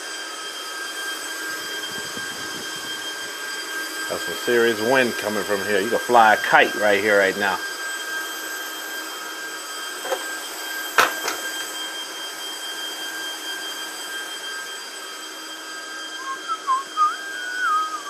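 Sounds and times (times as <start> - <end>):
cooling fans whining: 0.0 - 18.0
wavering whistle-like tone: 0.2 - 18.0.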